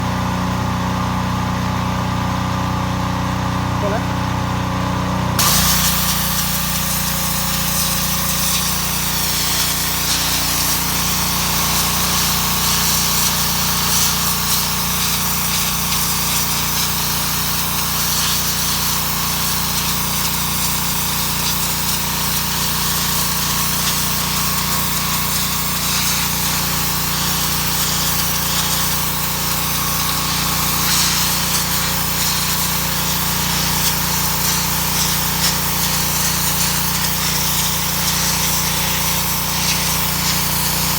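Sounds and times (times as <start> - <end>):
pressure washer engine running: 0.0 - 40.9
water jet hissing on brick: 5.4 - 40.9.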